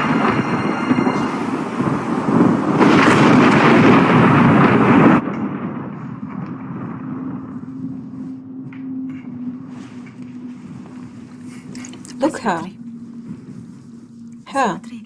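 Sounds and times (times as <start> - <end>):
low steady hum: 0.0 - 15.0
thunder rumbling: 0.0 - 15.0.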